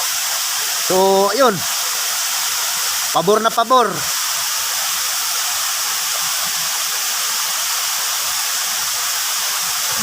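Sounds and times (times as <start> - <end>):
waterfall rushing into pool: 0.0 - 10.0.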